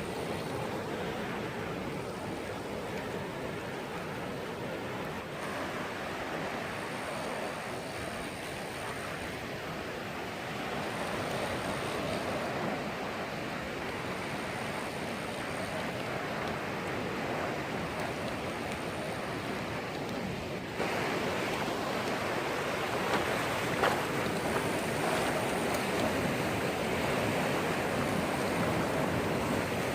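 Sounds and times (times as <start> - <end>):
sea surf breaking on shore: 0.0 - 29.9.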